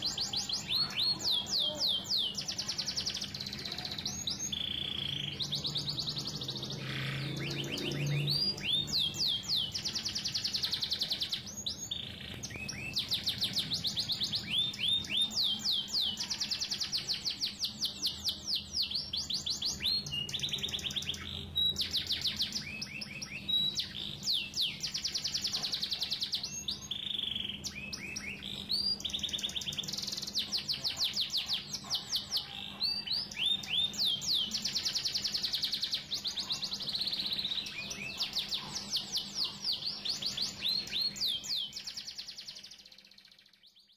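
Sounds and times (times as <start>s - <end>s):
songbird singing whistled phrases: 0.0s - 43.9s.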